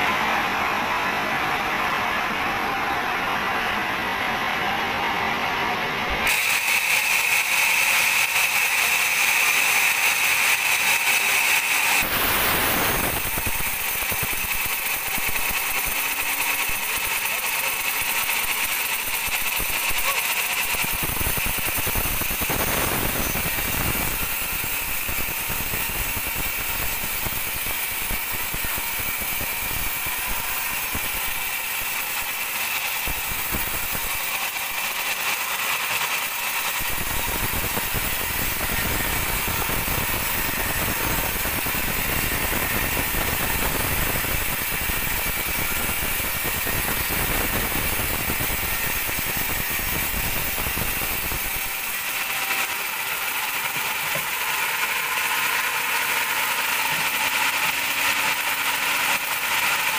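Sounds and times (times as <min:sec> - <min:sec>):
band saw whining: 0:00.0 - 0:59.9.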